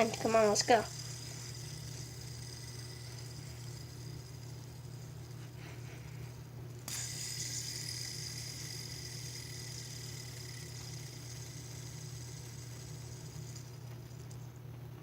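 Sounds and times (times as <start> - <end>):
fidget spinner whirring: 0.0 - 15.0
low hum: 0.0 - 15.0.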